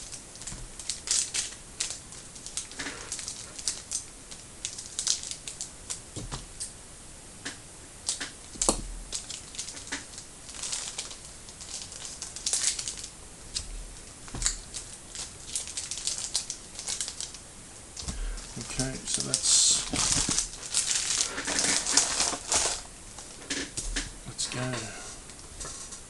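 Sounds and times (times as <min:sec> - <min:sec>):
wrappers crinkling: 0:00.0 - 0:06.0, 0:08.0 - 0:26.0.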